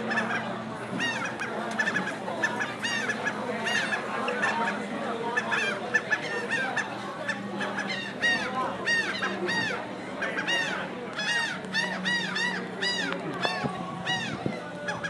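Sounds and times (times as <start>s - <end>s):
outdoor hubbub: 0.0s - 15.0s
seagulls calling: 0.0s - 15.0s.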